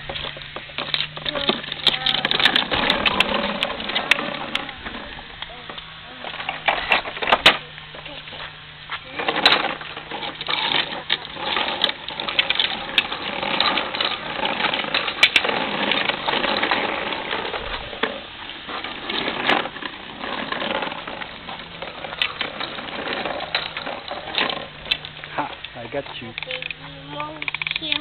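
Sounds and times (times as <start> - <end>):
plastic wheels rattling on asphalt: 0.0 - 28.0.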